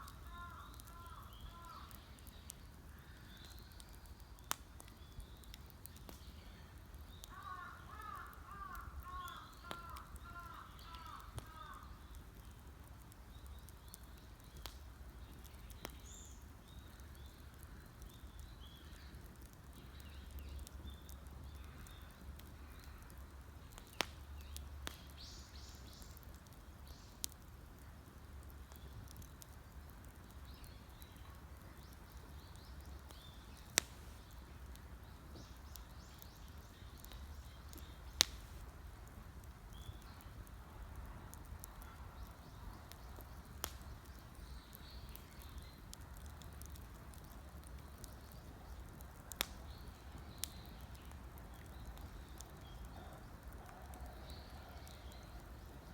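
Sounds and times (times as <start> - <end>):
birds chirping faintly: 0.0 - 55.9
campfire crackling: 0.0 - 55.9.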